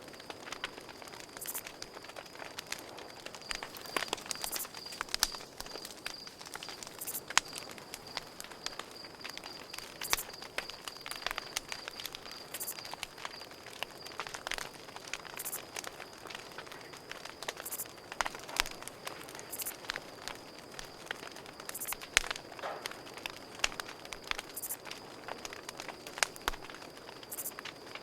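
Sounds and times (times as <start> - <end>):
campfire crackling and popping: 0.0 - 28.0
cricket chirping: 0.0 - 28.0.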